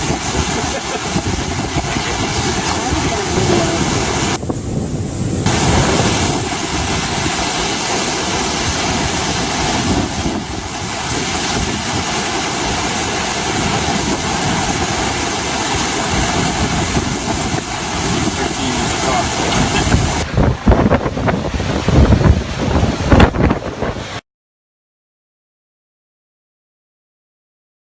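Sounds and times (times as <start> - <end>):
hurricane winds buffeting microphone: 0.0 - 24.2.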